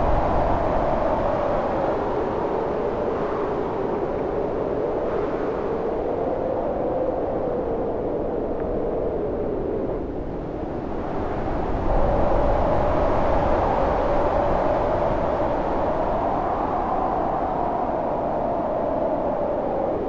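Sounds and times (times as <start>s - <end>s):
howling wind: 0.0s - 20.0s.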